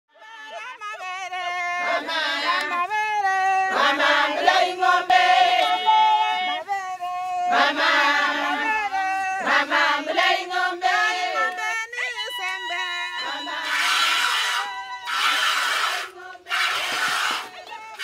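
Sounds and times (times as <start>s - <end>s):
group of voices singing: 0.2s - 18.0s.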